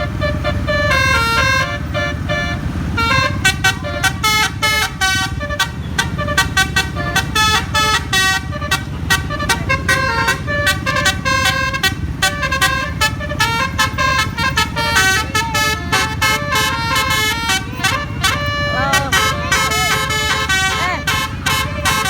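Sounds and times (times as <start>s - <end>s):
bus engine rumble: 0.0s - 22.0s
musical bus air horn: 0.0s - 22.0s.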